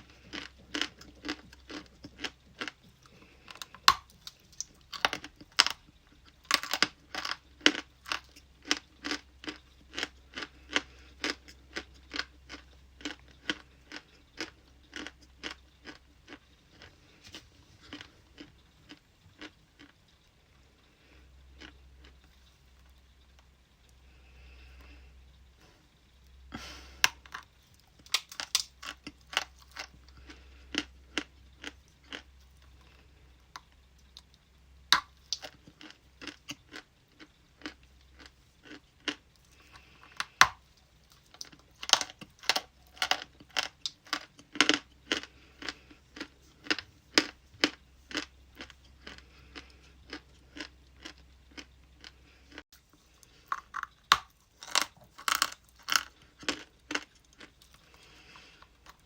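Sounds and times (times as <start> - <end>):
ice being chewed: 0.0 - 25.4, 26.6 - 59.0.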